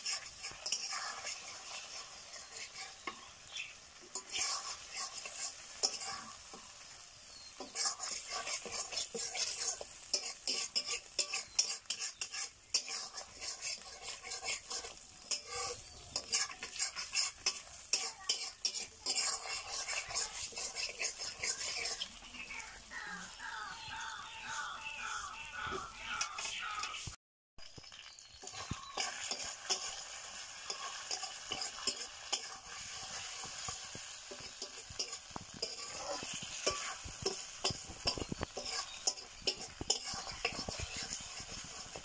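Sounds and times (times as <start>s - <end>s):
spatula scraping iron pan: 0.0s - 27.1s, 28.4s - 42.0s
gravy sizzling: 0.0s - 42.0s.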